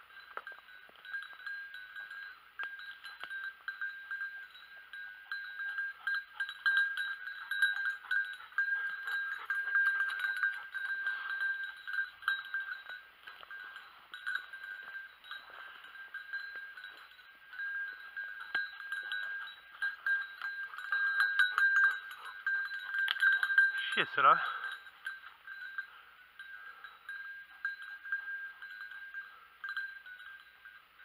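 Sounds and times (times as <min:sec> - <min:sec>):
dog collar bell jangling: 0:00.0 - 0:31.0.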